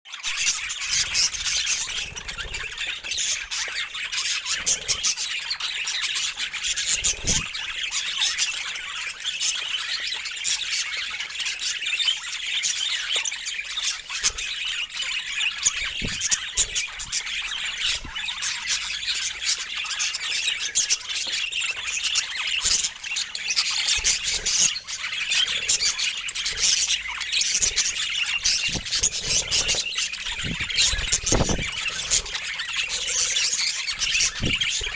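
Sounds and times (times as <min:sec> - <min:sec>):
budgerigars chattering and squawking: 0:00.1 - 0:34.9.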